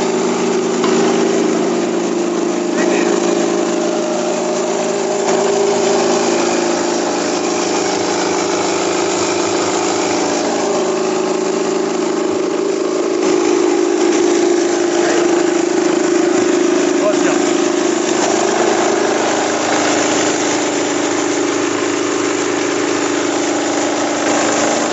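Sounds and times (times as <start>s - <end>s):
rice husker machine drone: 0.0s - 24.9s.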